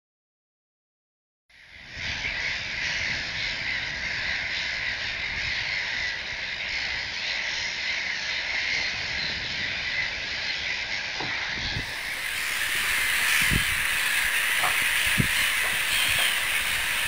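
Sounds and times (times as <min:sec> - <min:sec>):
gulls calling: 0:01.6 - 0:17.0.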